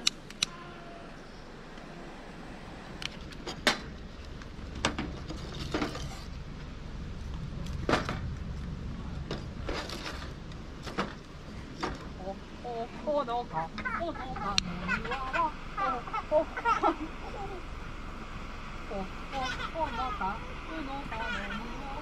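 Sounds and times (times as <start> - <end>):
low rumble: 0.1 - 22.0.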